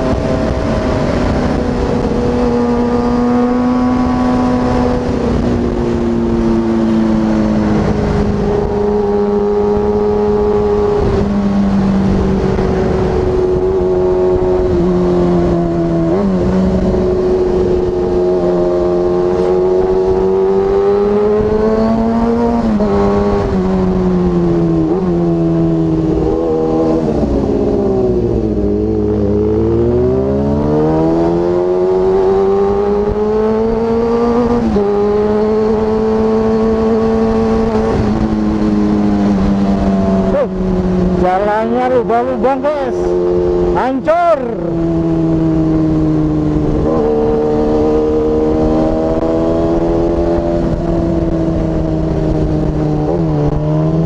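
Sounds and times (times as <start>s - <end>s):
motorcycle engine while riding: 0.0s - 54.0s.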